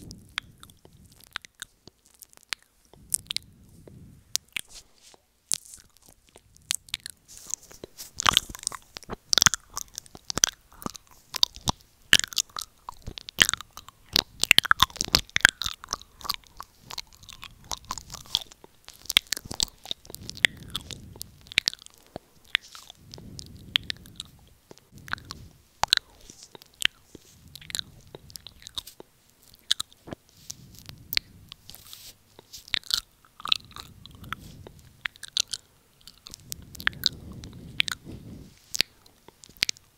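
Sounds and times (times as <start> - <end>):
tongue clicks: 0.0 - 4.7, 5.5 - 39.9
lip smacks: 0.0 - 39.9
mouth sucking sounds: 0.0 - 39.9
soft breaths: 0.0 - 39.9.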